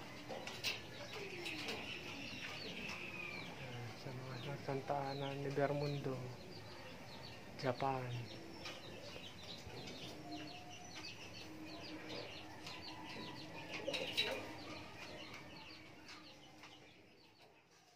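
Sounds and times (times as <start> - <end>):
pigeons cooing: 0.0 - 17.0
birds chirping: 0.0 - 17.9.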